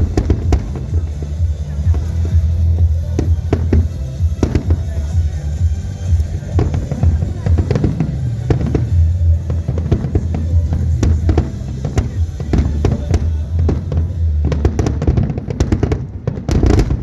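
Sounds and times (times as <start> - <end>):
fireworks bangs and crackles: 0.0 - 17.0
music with deep bass: 0.0 - 17.0.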